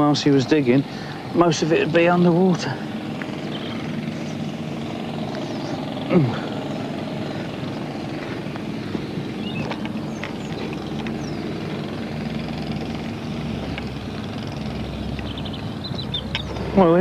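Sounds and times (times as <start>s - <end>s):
heavy engine droning: 0.0s - 17.0s.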